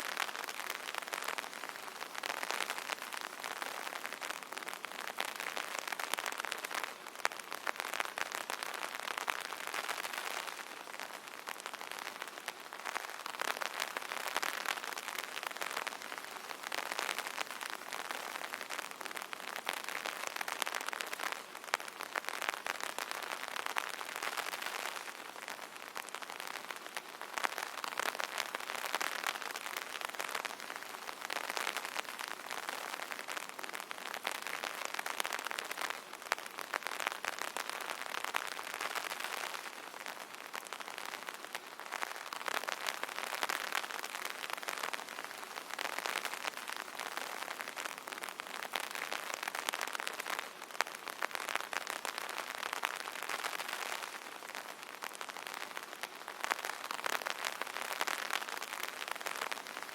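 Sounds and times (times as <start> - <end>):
rain tapping on an umbrella: 0.0 - 59.9.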